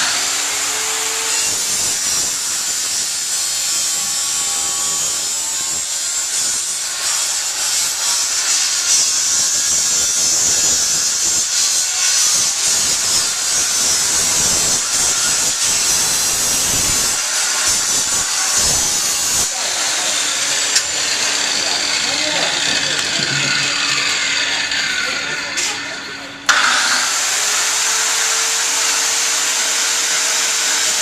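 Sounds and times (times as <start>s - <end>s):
angle grinder grinding: 0.0s - 31.0s.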